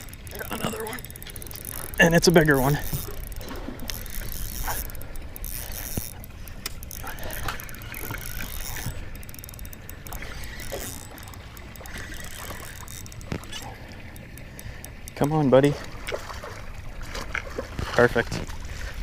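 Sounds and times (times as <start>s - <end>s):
fishing reel whirring: 0.0s - 16.8s.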